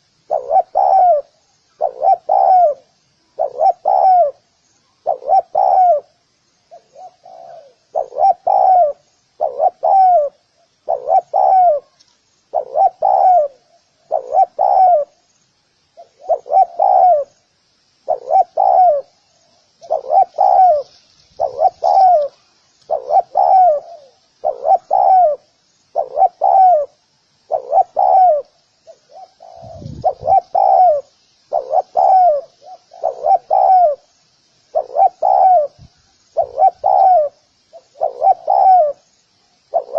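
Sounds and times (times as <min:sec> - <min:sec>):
dove cooing: 0:00.0 - 0:15.2, 0:16.0 - 0:17.4, 0:18.0 - 0:19.2, 0:19.8 - 0:34.1, 0:34.7 - 0:39.0, 0:39.6 - 0:39.9.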